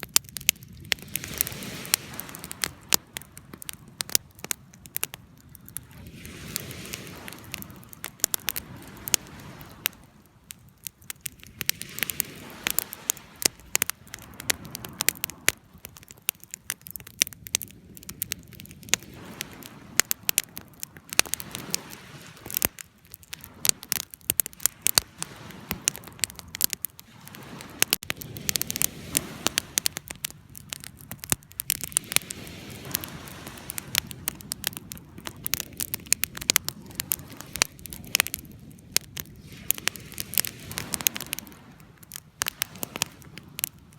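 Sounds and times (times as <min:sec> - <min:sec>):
rushing of flames: 0:00.0 - 0:43.9
wood fire pops and snaps: 0:00.0 - 0:43.9.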